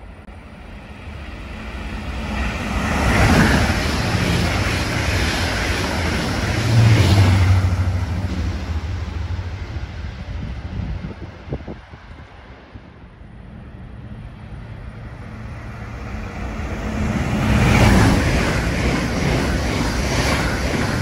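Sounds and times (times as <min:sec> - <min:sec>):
train running gear hum: 0:00.0 - 0:21.0
train wheels rushing on rail: 0:00.0 - 0:21.0.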